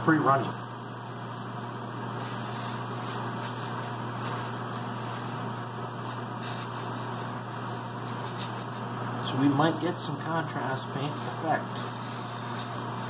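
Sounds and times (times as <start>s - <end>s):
constant low hum: 0.0s - 13.0s
airbrush air hissing: 0.5s - 8.8s, 9.6s - 13.0s.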